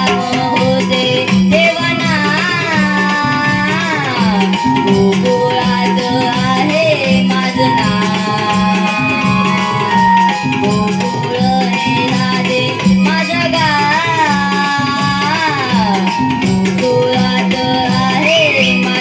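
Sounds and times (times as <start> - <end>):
boy singing through a pa: 0.0 - 19.0
percussion: 0.0 - 19.0
steady drum beat: 0.0 - 19.0.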